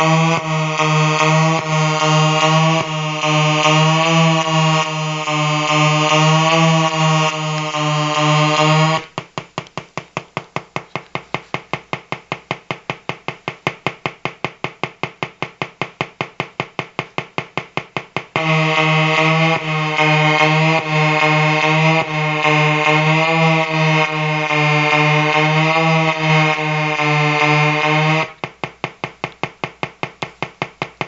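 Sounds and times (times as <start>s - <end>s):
pulsing electronic buzz: 0.0s - 9.5s, 11.9s - 31.0s
even electronic ticking: 0.0s - 31.0s.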